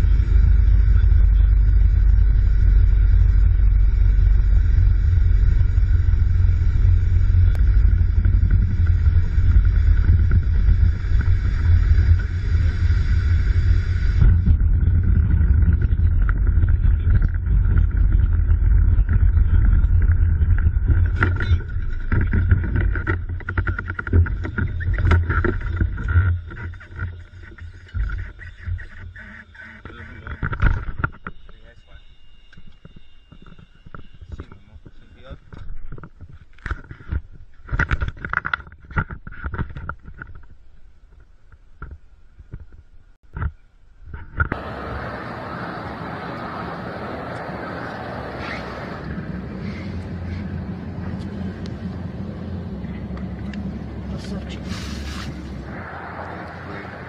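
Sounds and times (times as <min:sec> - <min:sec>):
plane cabin engine rumble: 0:00.0 - 0:57.0.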